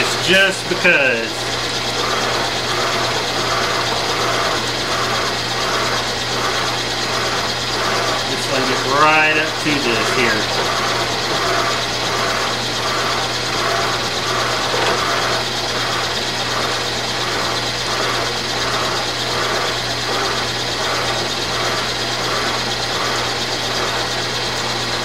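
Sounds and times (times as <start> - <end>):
milling machine motor hum: 0.0 - 25.0
pulsing metal cutting: 0.0 - 25.0.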